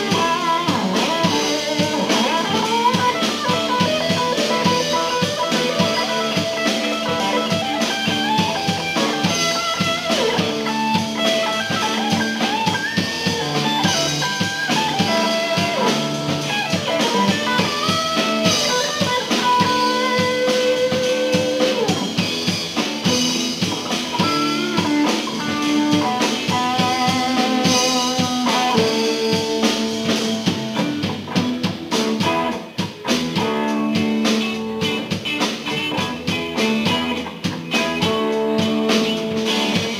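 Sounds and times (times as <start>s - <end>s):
drum kit: 0.0s - 39.9s
electric guitar lead: 0.0s - 39.9s.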